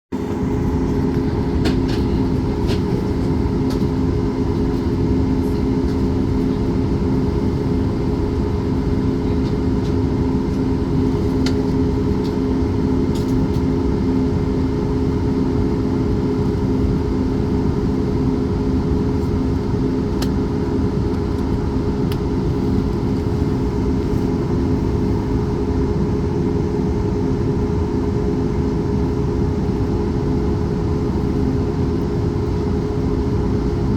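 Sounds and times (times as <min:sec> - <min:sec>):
jet engines idling hum: 0:00.2 - 0:33.9.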